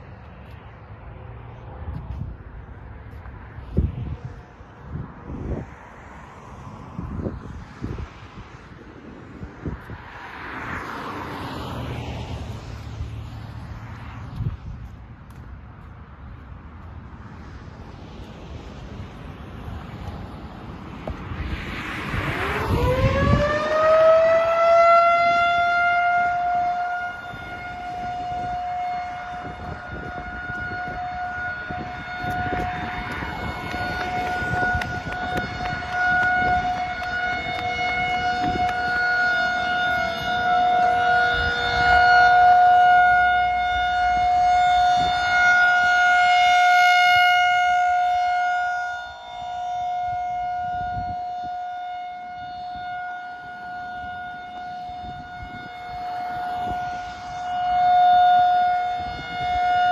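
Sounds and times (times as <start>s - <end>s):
tornado siren wailing: 0.0s - 59.9s.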